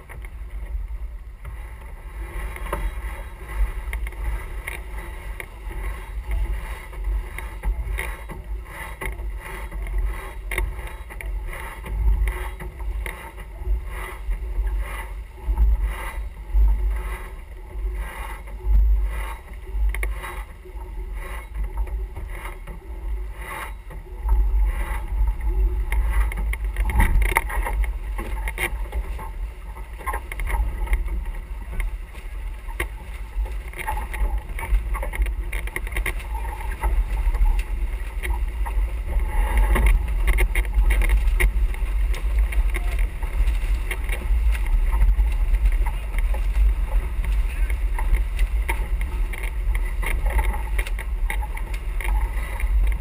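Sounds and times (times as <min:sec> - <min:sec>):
water rushing along hull: 0:00.0 - 0:53.0
wind buffeting microphone: 0:00.0 - 0:53.0.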